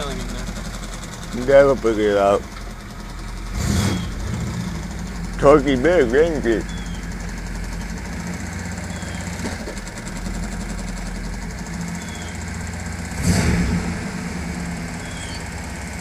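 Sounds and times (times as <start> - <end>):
car engine idling with rattle: 0.0 - 16.0.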